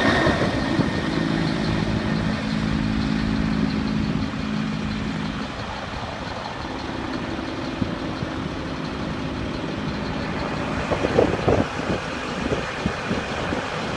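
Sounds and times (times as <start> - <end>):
low rumbles: 0.0 - 13.9.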